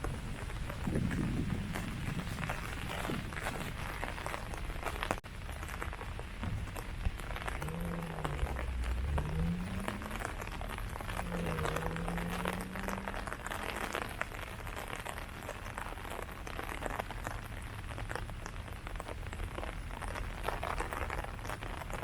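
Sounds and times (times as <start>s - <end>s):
low steady hum: 0.0s - 22.0s
rain pattering on leaves: 0.0s - 22.0s.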